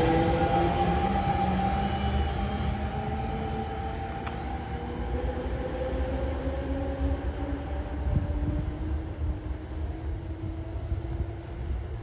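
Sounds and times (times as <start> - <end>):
distant train rumble: 0.0 - 12.0.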